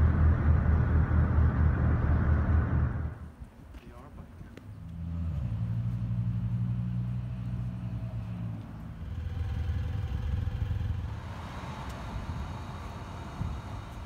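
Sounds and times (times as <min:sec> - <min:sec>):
passing road traffic: 0:00.0 - 0:14.0
vehicle engine rumble: 0:00.0 - 0:14.0.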